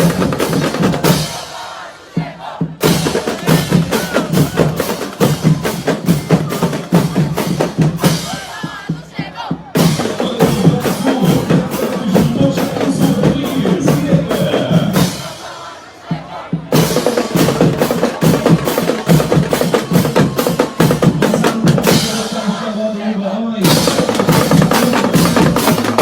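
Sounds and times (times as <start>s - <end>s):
snare and bass drum cadence: 0.0s - 22.6s, 23.6s - 26.0s.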